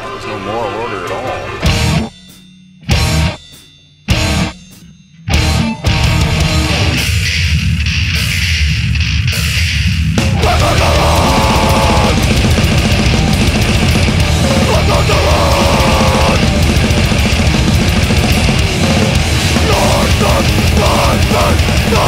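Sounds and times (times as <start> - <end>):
heavy band music: 0.0 - 22.0
high-pitched guitar line: 1.3 - 22.0.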